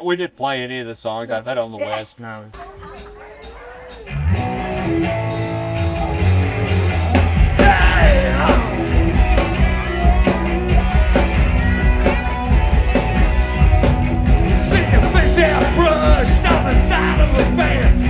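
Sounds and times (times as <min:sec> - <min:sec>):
live rock band playing: 0:02.6 - 0:18.0.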